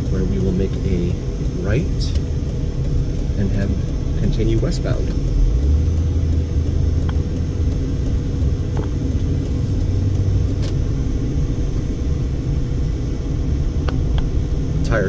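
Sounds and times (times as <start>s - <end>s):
faint steady hum: 0.0s - 15.0s
road and engine rumble: 0.0s - 15.0s.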